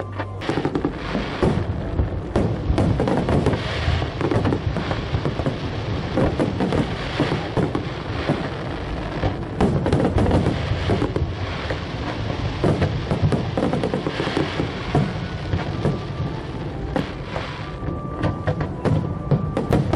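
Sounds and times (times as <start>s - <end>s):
fireworks bangs and crackles: 0.0s - 19.9s.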